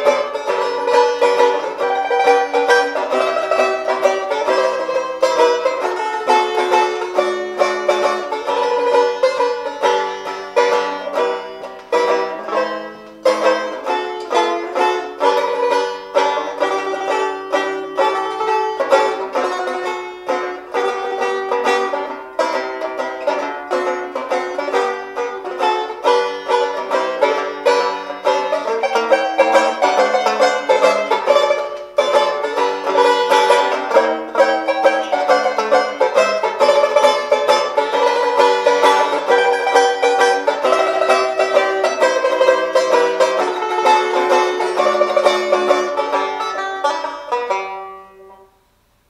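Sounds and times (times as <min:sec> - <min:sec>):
banjo melody: 0:00.0 - 0:49.0.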